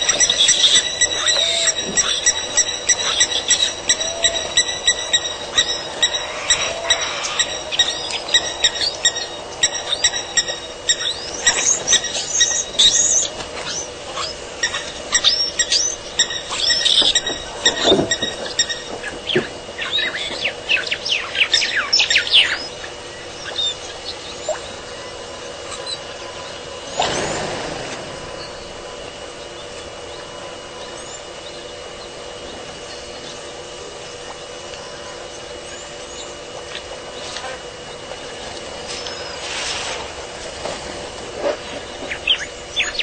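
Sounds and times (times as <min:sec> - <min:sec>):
birds chirping: 0:00.0 - 0:39.5, 0:41.5 - 0:43.0
faint steady hum: 0:00.0 - 0:43.0.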